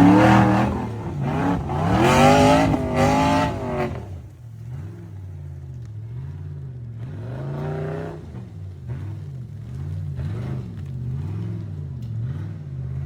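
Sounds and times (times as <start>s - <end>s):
off-road engine revving: 0.0s - 5.4s, 6.1s - 13.0s.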